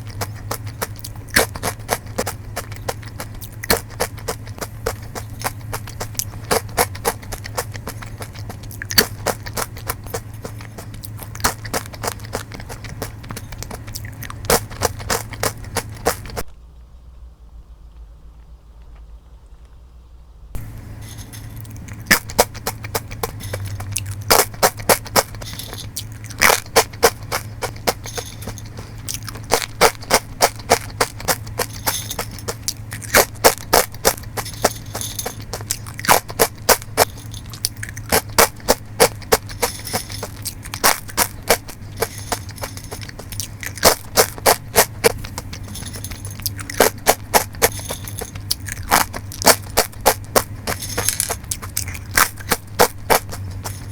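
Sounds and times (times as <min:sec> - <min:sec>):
crunchy chewing of nuts: 0:00.0 - 0:16.5, 0:20.6 - 0:53.9
faint steady hum: 0:00.0 - 0:53.9.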